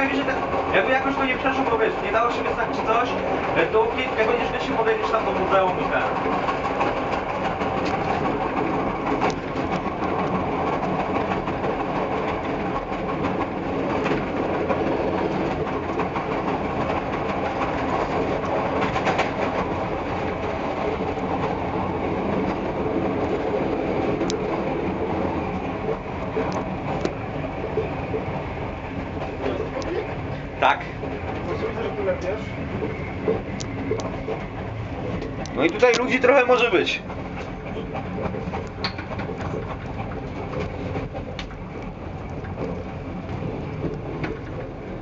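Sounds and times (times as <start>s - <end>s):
sharp clicks of train wheels: 0.0s - 45.0s
train wheels rumbling on rails: 0.0s - 45.0s.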